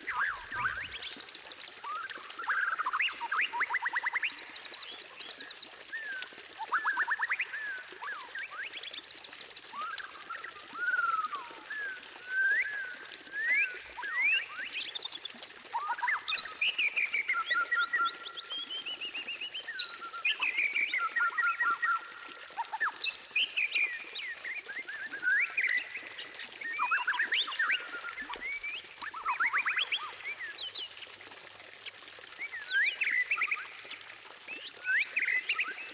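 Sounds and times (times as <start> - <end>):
bird singing whistles and trills: 0.0 - 35.9.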